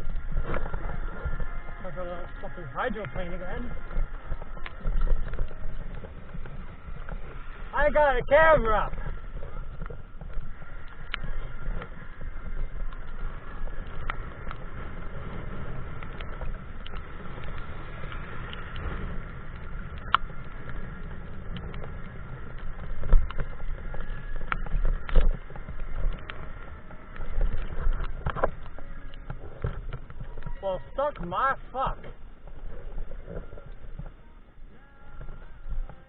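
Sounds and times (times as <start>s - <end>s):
wind and tyre noise: 0.0s - 36.0s.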